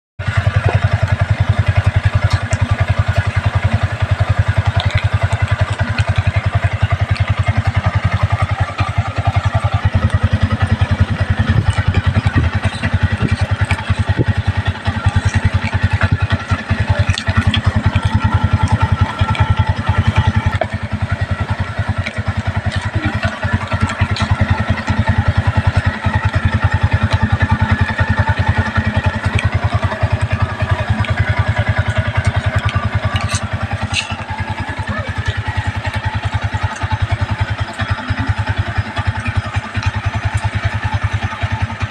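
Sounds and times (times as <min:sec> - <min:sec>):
motorcycle engine idling: 0:00.2 - 0:41.9.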